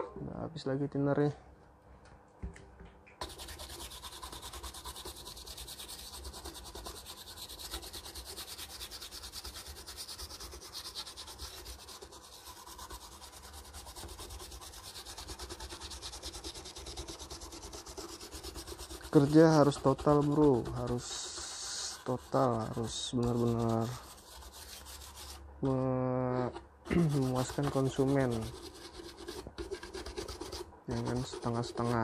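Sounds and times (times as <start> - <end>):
brush scrubbing circuit board: 3.2 - 32.0.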